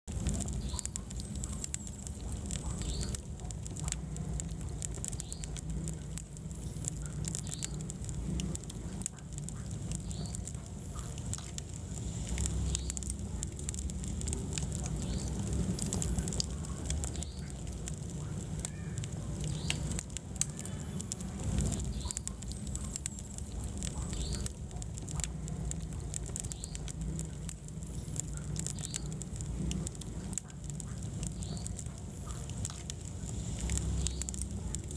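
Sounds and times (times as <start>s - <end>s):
fire crackling and popping: 0.0s - 34.9s
fire rumbling: 0.0s - 34.9s.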